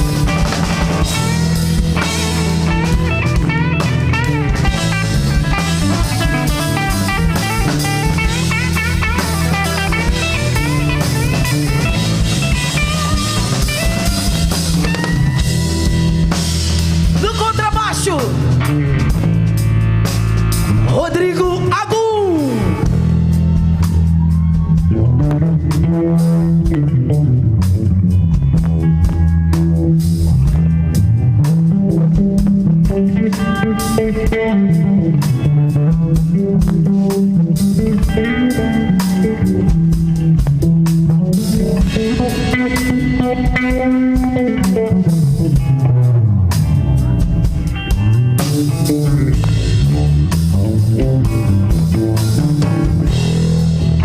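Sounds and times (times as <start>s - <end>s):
electric guitar note bending: 0.0s - 17.2s, 24.8s - 54.0s
live rock band playing: 0.0s - 54.0s.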